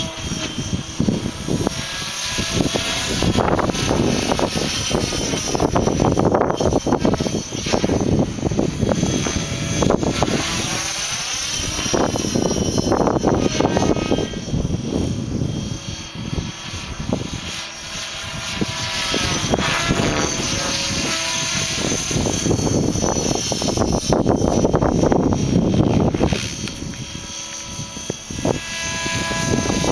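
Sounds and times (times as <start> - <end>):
model helicopter rotor and motor whine: 0.0 - 29.9
wind rumbling on microphone: 0.0 - 29.9.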